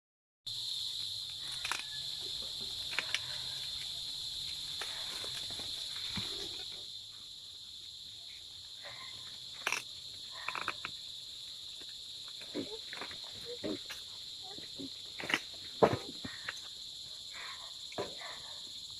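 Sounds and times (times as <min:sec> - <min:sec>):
insects droning: 0:00.5 - 0:18.9.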